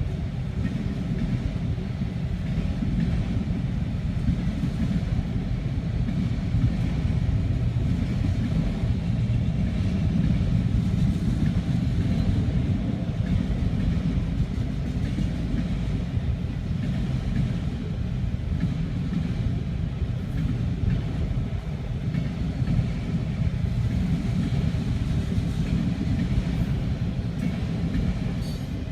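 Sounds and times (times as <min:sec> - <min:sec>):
freight train rumbling past: 0:00.0 - 0:28.9.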